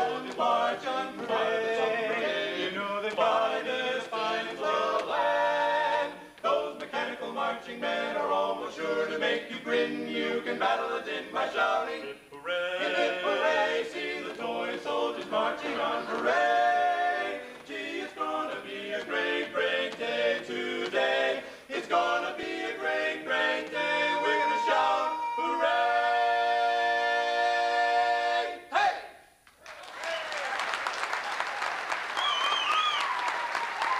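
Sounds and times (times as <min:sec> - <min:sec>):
men singing a cappella: 0:00.0 - 0:28.7.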